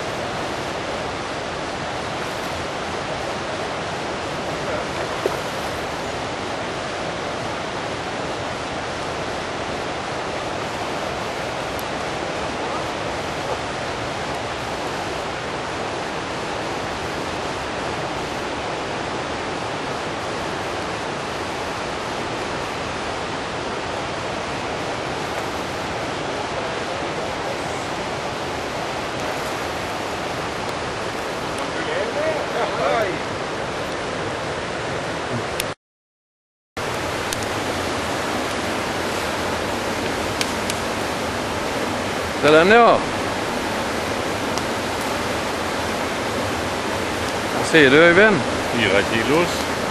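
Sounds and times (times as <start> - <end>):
river current rushing: 0.0 - 35.8, 36.8 - 49.9.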